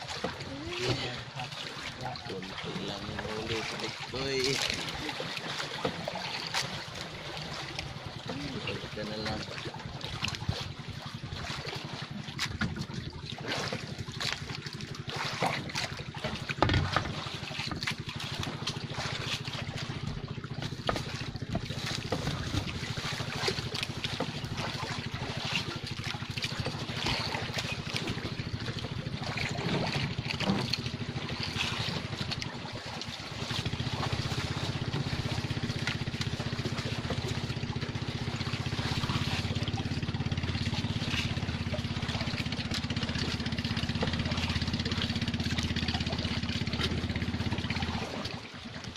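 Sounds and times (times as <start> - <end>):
small boat engine idling: 0.0 - 48.9.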